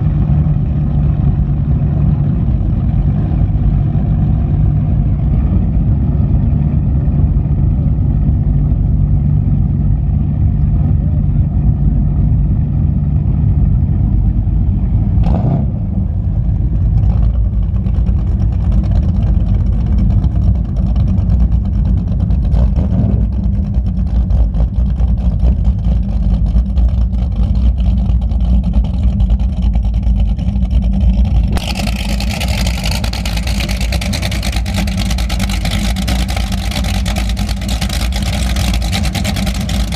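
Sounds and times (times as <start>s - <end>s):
powerboat engines rumbling: 0.0s - 39.9s.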